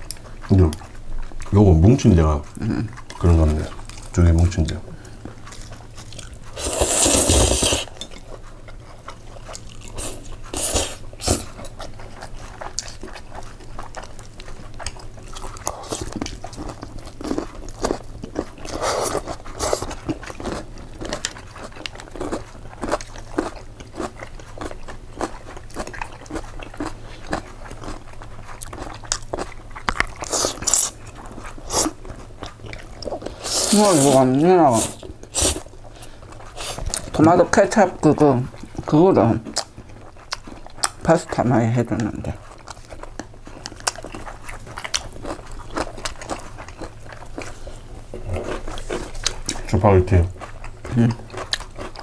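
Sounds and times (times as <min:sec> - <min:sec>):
person chewing pasta: 0:00.0 - 0:52.0.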